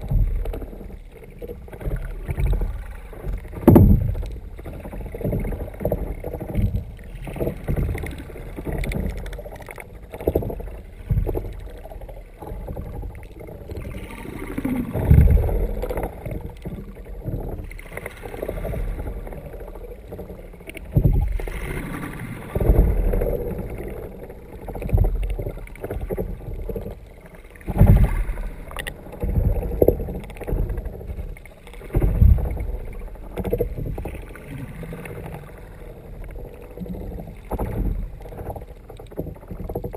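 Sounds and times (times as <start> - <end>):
low thumps against hull: 0.0 - 17.7, 18.5 - 39.9
muffled water sloshing: 0.0 - 39.9.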